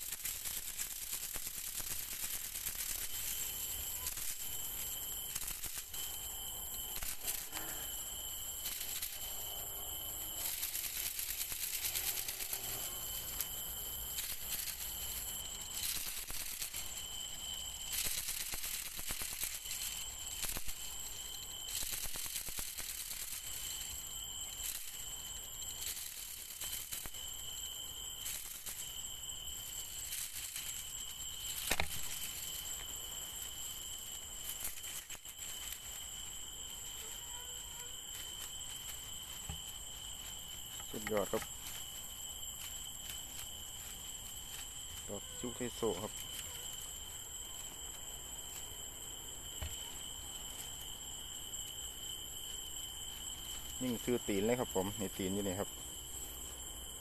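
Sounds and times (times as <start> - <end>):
insects trilling: 0.0 - 57.0
rustling of grass and brush: 0.0 - 57.0.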